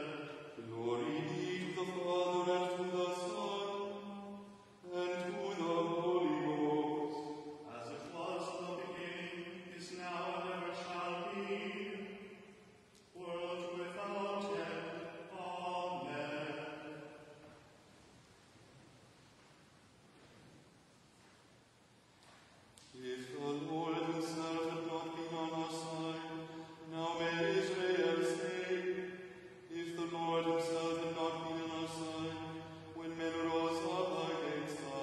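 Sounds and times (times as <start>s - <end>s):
liturgical chanting: 0.0s - 17.8s, 22.8s - 35.0s.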